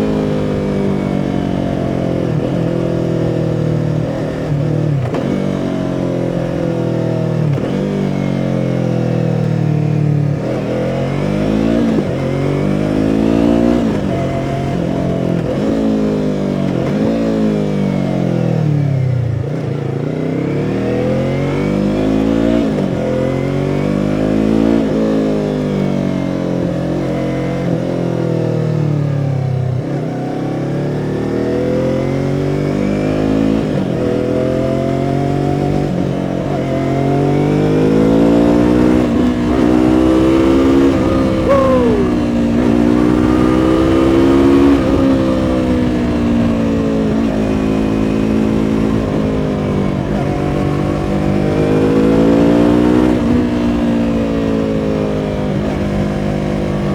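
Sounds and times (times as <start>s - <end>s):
motorcycle engine and exhaust: 0.0s - 56.9s.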